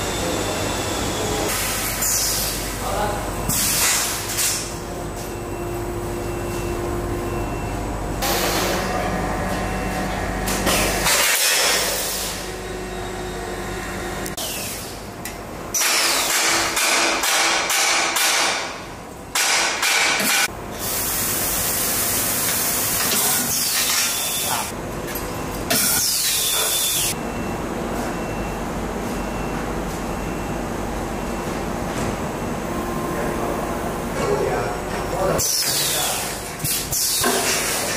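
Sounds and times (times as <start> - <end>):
laser cutting machine hum: 0.0 - 15.7, 20.4 - 37.9.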